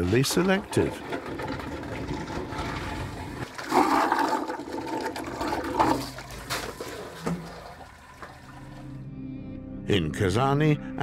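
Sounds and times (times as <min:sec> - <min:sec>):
water rushing and splashing: 0:00.0 - 0:09.0.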